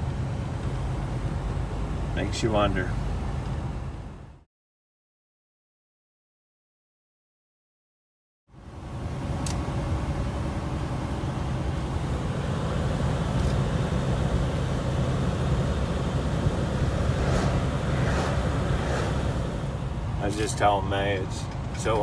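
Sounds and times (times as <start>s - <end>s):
truck diesel engine running: 0.0s - 4.4s, 8.6s - 22.0s
road noise: 0.0s - 4.5s, 8.5s - 22.0s.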